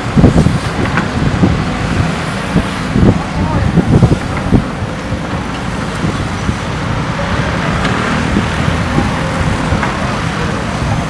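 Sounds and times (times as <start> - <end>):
diesel engine under load: 0.0 - 11.0.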